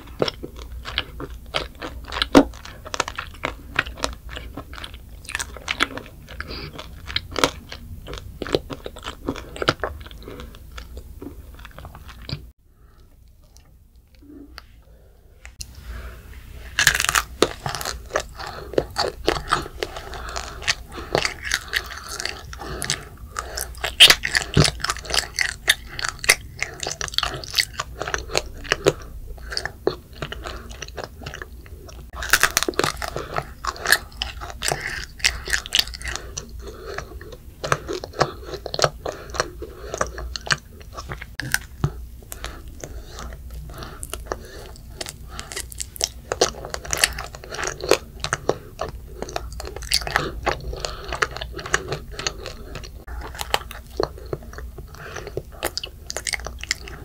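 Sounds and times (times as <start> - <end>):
child crunching hard candy: 0.0 - 12.5, 16.6 - 57.0.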